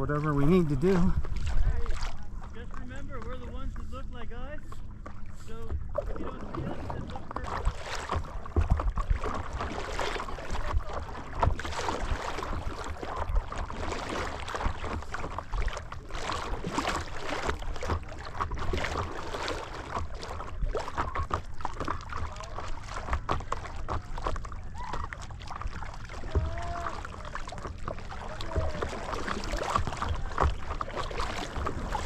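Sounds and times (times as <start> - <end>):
paddle splashing in water: 0.0 - 32.0
water lapping against board: 0.0 - 32.0.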